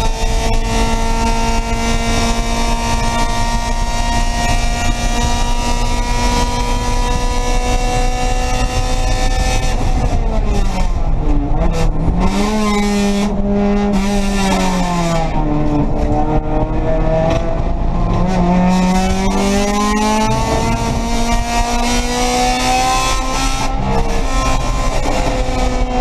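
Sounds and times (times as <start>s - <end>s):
race car engine: 0.0s - 26.0s.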